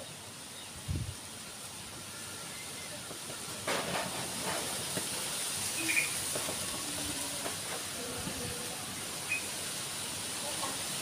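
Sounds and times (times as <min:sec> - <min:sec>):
strong wind through trees: 0:00.0 - 0:11.0.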